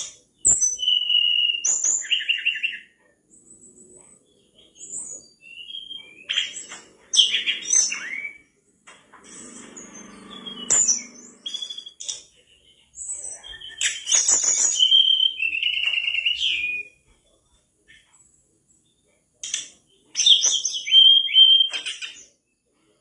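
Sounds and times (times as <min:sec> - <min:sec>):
bird whistles and trills: 0:00.0 - 0:08.6, 0:09.3 - 0:12.3, 0:13.0 - 0:17.0, 0:19.4 - 0:22.3.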